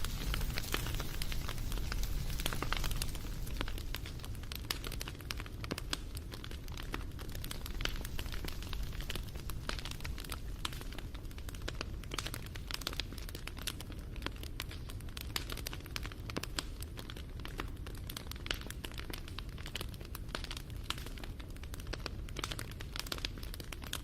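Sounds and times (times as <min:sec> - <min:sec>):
low fire rumble: 0:00.0 - 0:24.0
wood fire crackling and popping: 0:00.0 - 0:24.0.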